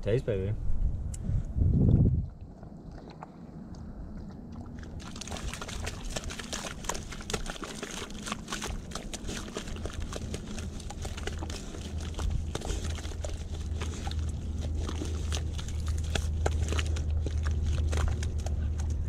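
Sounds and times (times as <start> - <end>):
puppy digging in wet mud: 2.4 - 19.0.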